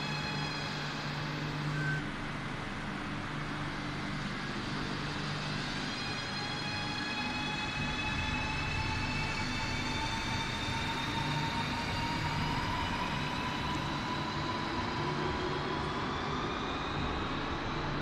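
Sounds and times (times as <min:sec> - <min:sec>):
electric train whine: 0:00.0 - 0:18.0.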